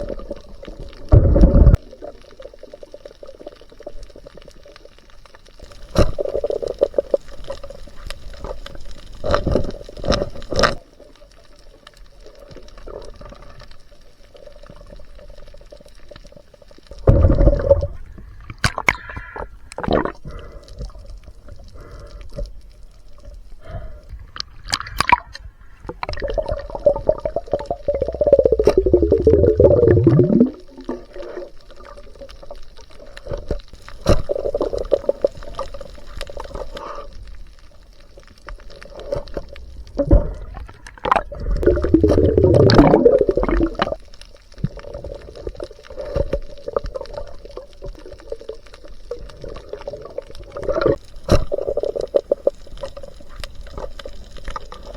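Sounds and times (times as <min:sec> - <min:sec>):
water sloshing and gurgling: 0:00.0 - 0:11.4, 0:12.1 - 0:54.9.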